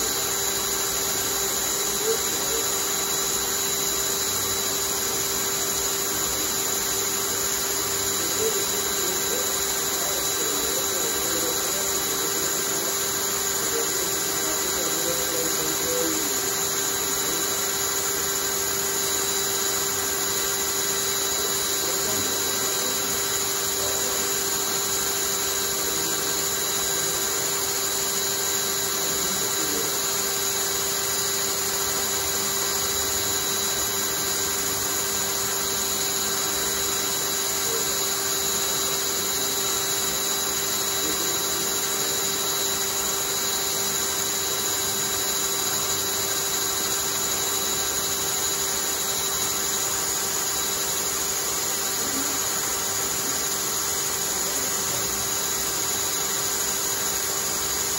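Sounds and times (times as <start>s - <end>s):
cordless drill whirring: 0.0s - 57.9s.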